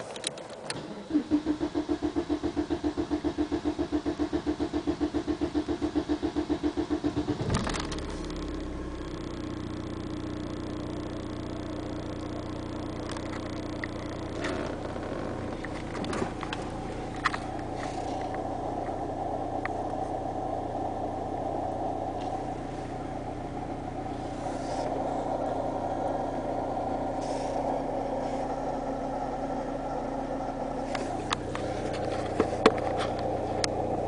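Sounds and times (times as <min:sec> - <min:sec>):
diesel engine cranking: 0:00.0 - 0:34.0
diesel engine idling: 0:00.0 - 0:34.0.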